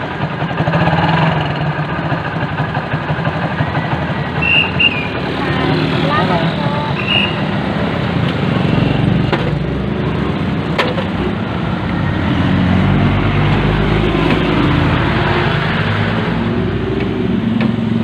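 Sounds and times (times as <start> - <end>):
road noise: 0.0 - 18.0
vehicle engine running: 0.0 - 18.0.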